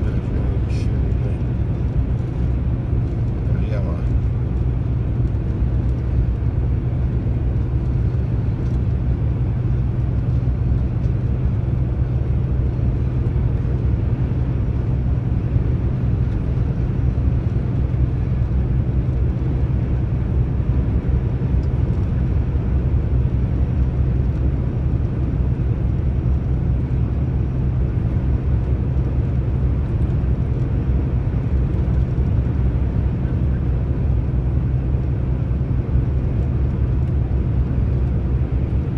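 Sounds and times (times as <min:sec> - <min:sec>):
truck engine drone: 0:00.0 - 0:38.9
tyres on the road: 0:00.0 - 0:38.9.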